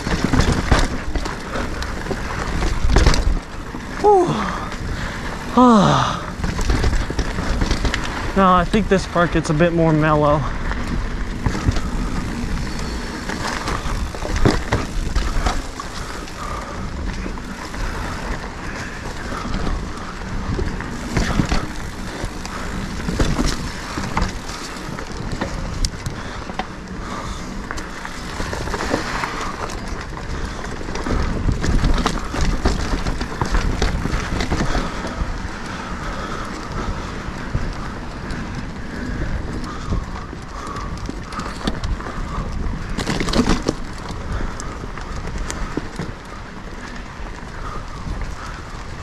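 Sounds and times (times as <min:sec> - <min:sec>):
bike clicking and rattling: 0:00.0 - 0:49.0
bike tyres rumbling on dirt: 0:00.0 - 0:49.0.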